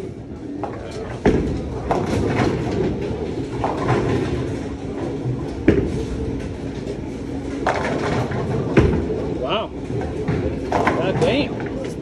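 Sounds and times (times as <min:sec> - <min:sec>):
bowling balls rolling: 0:00.0 - 0:12.0.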